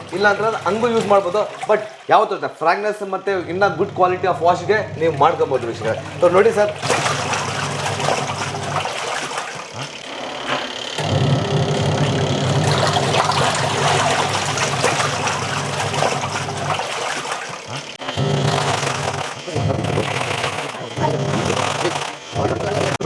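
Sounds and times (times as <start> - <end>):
washing machine motor hum: 0.0 - 23.0
water sloshing: 0.0 - 23.0.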